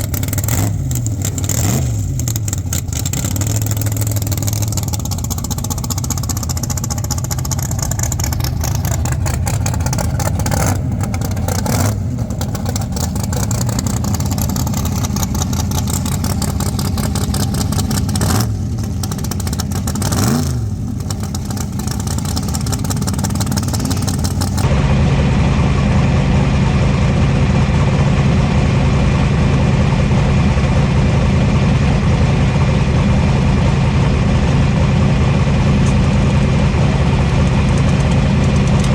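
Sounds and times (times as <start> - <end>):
deep steady engine note: 0.0 - 38.9
race car engines running: 0.0 - 38.9.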